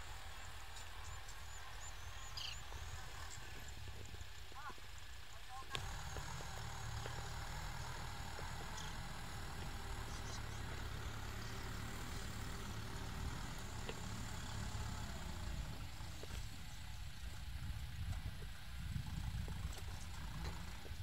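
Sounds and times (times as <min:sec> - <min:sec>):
tractor diesel engine: 0:00.0 - 0:21.0.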